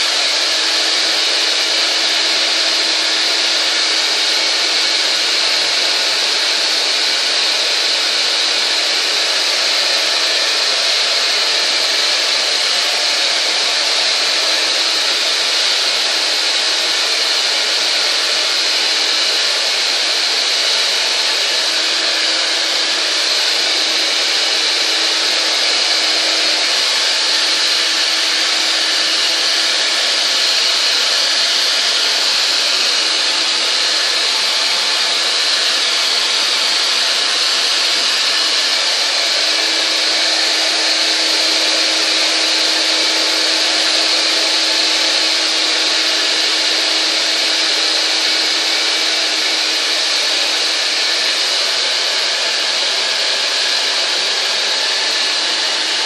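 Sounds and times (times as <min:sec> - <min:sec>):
hair dryer blowing air: 0:00.0 - 0:56.0.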